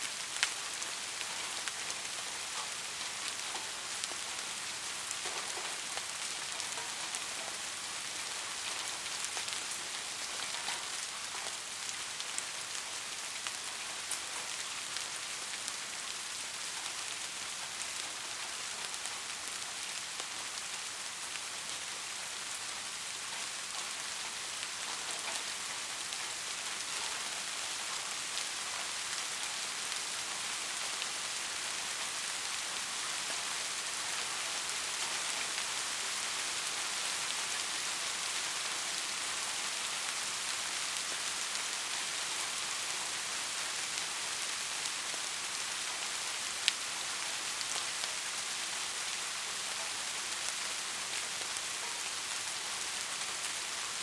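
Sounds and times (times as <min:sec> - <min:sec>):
heavy rain: 0:00.0 - 0:54.0
rain drops ticking: 0:00.0 - 0:54.0.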